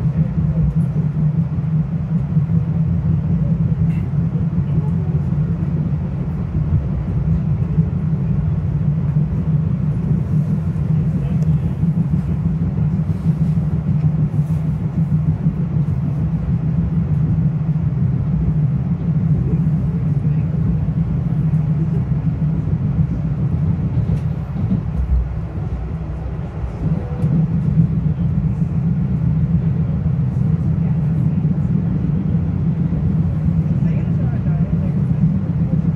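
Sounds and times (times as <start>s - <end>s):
train wheels rumbling on track: 0.0s - 35.9s.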